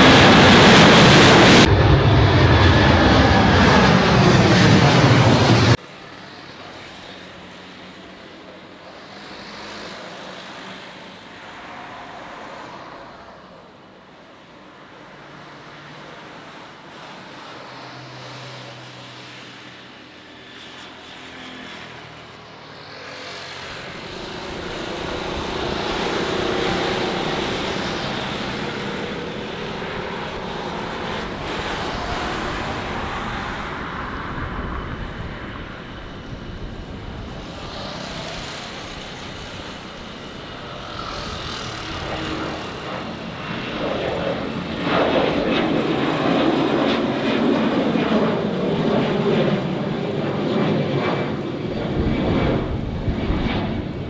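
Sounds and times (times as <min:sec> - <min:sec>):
faint jet whine: 0:00.0 - 0:54.0
jet engines roaring: 0:00.0 - 0:54.0.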